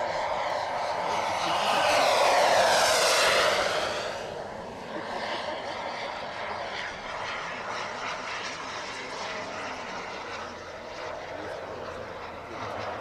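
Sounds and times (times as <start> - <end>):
model jet rushing whine: 0.0 - 13.0.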